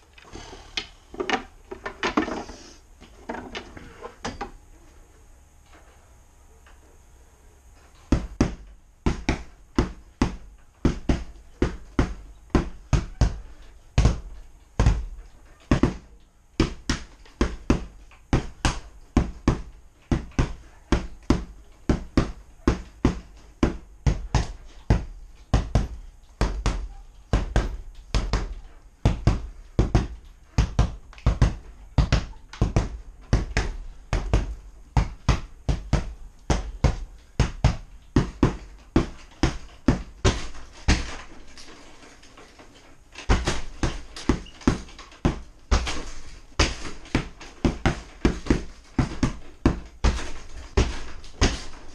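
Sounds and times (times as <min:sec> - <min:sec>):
punches on punching bag: 0:08.1 - 0:41.3, 0:43.3 - 0:51.9.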